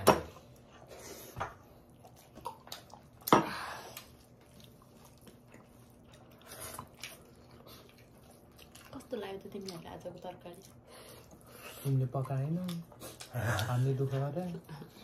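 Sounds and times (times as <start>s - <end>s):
chewing: 0.4s - 15.0s.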